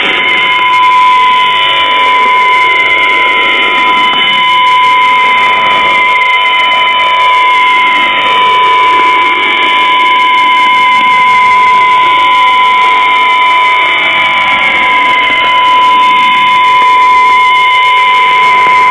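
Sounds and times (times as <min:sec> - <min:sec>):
steady high radio tone: 0:00.0 - 0:18.9.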